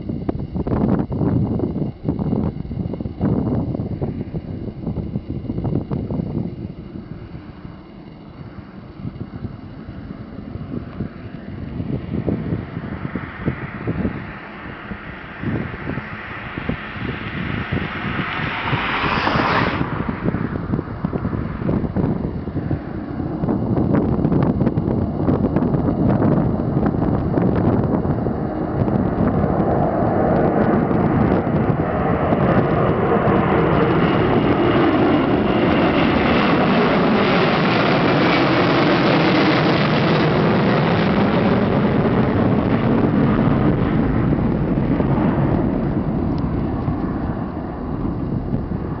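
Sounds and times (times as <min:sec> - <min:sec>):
jet engines at take-off thrust: 0:00.0 - 0:49.0.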